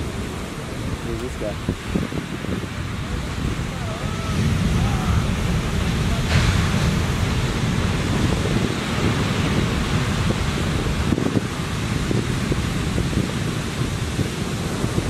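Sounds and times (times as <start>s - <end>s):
waves breaking: 0.0s - 15.0s
wind buffeting microphone: 0.0s - 15.0s.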